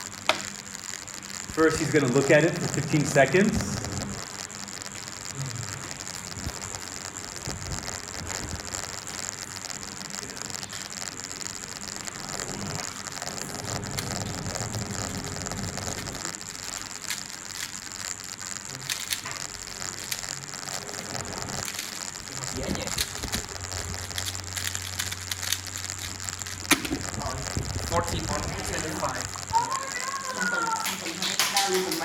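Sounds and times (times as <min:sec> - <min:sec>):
speed cube clicking: 0:00.0 - 0:05.0, 0:05.8 - 0:32.0
steady hiss: 0:00.0 - 0:32.0.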